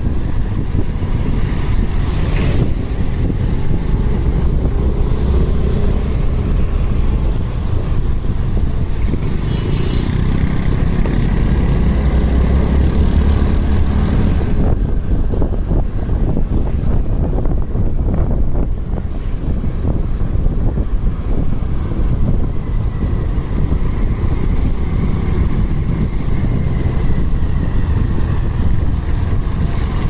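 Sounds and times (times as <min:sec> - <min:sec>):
motorcycle engine: 0:00.0 - 0:30.0
road traffic noise: 0:00.0 - 0:30.0
wind rushing over microphone: 0:00.0 - 0:30.0.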